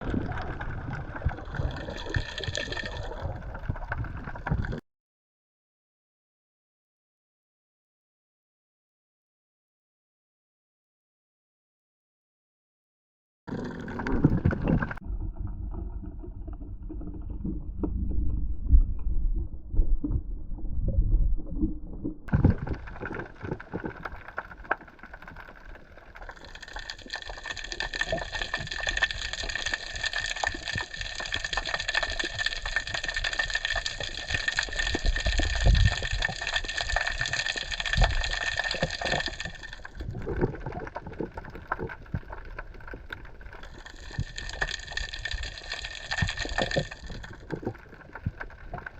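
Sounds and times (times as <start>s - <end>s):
dense underwater crackling: 0.0s - 4.8s, 13.5s - 48.9s
underwater water movement: 0.0s - 4.8s, 13.5s - 48.9s.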